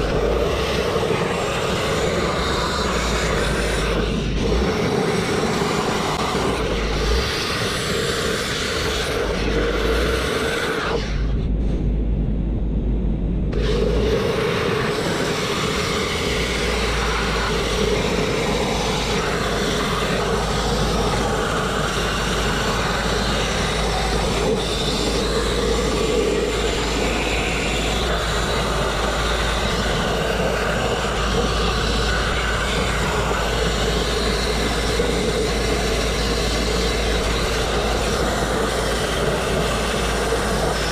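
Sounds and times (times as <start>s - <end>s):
grit blasting on steel: 0.0s - 11.2s, 13.5s - 40.9s
low rumble: 0.0s - 40.9s.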